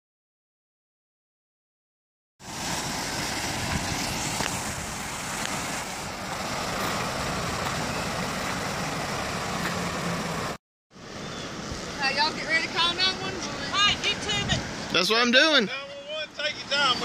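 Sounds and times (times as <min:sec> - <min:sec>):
van splashing through floodwater: 0:02.4 - 0:17.0.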